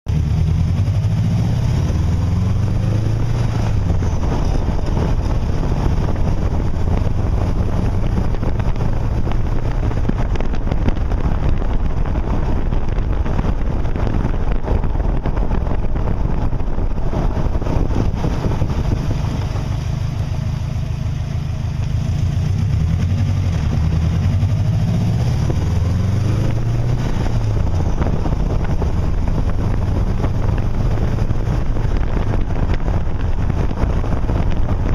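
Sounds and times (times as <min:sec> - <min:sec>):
wind rumbling on microphone: 0:00.1 - 0:34.9.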